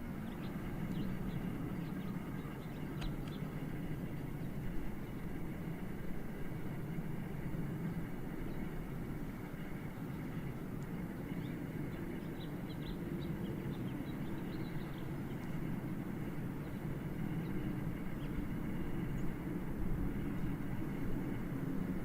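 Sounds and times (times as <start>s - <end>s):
jet aircraft rumble overhead: 0.0s - 22.0s
small birds chirping: 0.1s - 6.8s, 7.7s - 19.4s.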